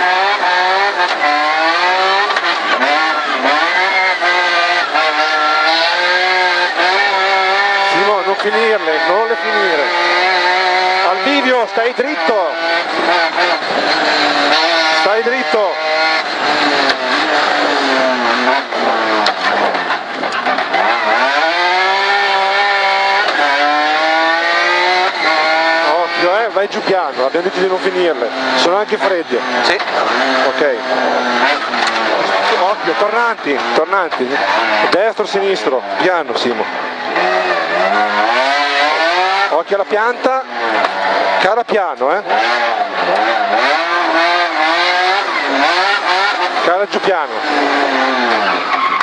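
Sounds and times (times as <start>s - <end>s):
car engine under hard driving: 0.0s - 49.0s.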